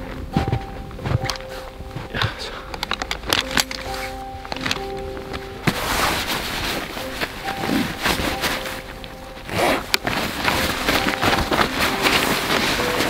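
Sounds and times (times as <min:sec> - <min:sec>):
nylon sack rustling: 0:00.0 - 0:13.0.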